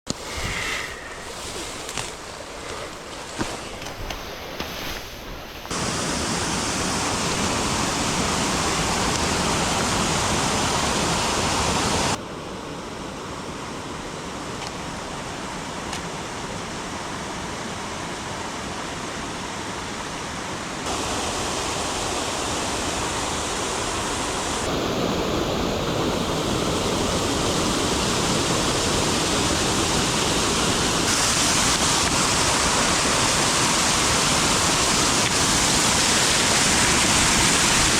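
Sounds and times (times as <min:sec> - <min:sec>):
running water rushing: 0:00.1 - 0:12.2, 0:14.0 - 0:37.9.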